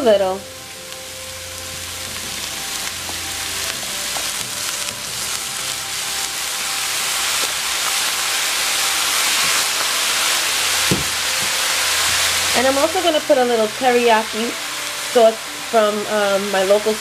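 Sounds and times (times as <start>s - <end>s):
vegetables sizzling in frying pan: 0.0s - 17.0s.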